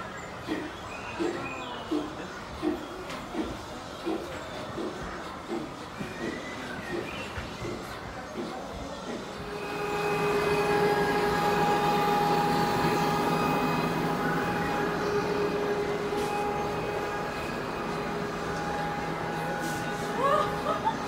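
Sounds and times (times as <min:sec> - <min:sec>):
steady pitched train drone: 0:00.0 - 0:21.0.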